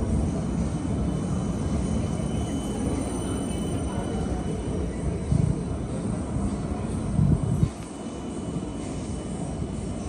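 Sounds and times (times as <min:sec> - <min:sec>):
faint high whines: 0:00.0 - 0:10.0
train rumbling past: 0:00.0 - 0:10.0.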